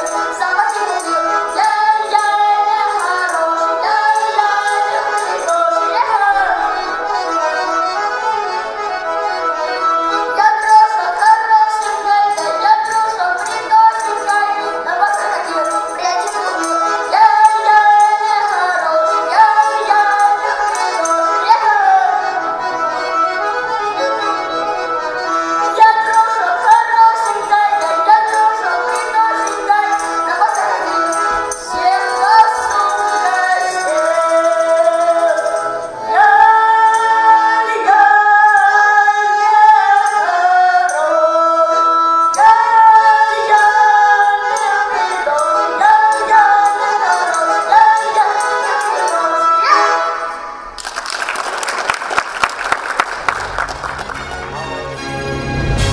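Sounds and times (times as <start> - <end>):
button accordion folk tune: 0.0 - 50.8, 51.8 - 55.9.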